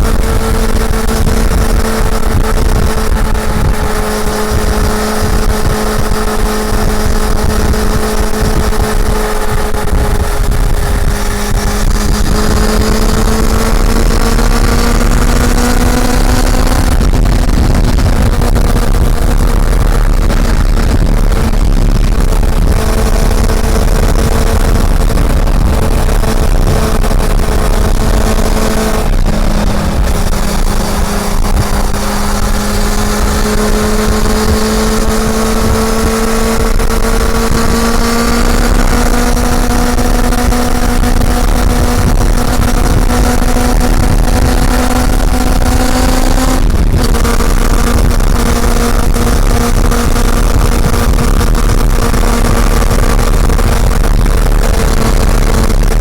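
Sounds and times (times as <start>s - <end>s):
motorcycle engine accelerating: 0.0s - 56.0s
wind rumble on microphone: 0.0s - 56.0s.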